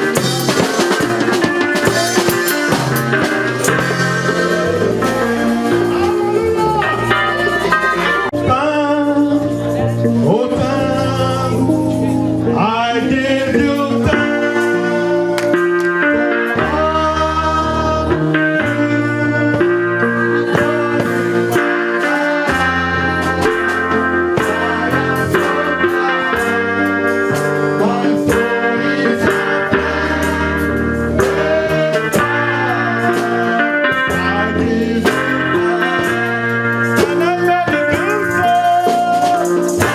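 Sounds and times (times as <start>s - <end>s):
band music with electric guitar: 0.0s - 39.9s.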